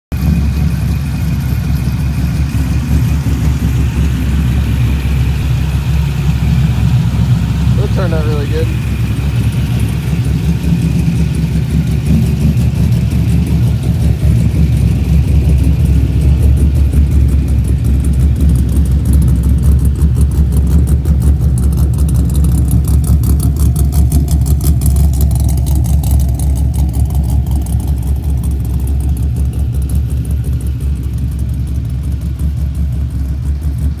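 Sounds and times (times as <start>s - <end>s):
car engine idling: 0.1s - 34.0s.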